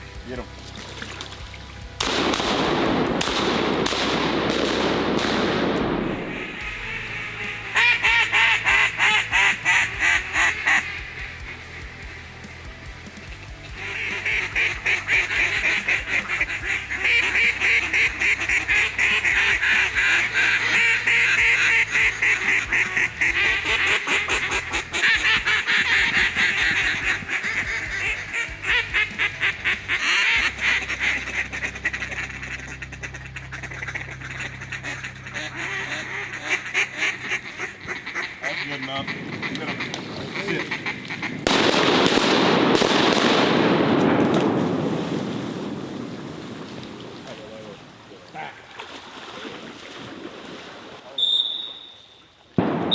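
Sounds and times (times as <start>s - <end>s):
ducks quacking: 0.0s - 48.8s.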